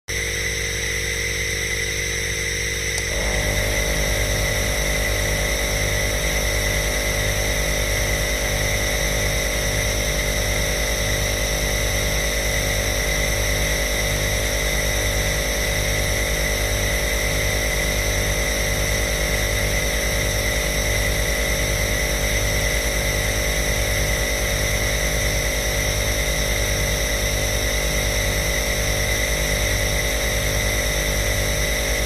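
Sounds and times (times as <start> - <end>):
nebulizer motor hum and hiss: 0.2 - 32.0.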